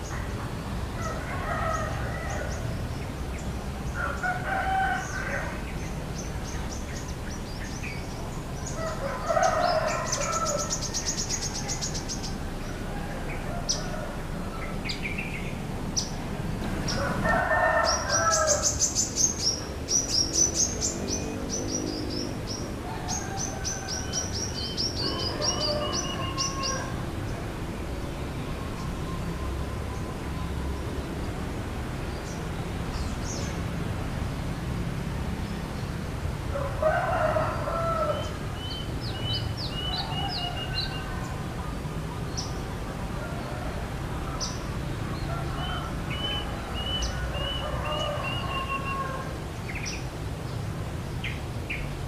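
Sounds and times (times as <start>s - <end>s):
small birds chirping in trills: 0.0s - 52.0s.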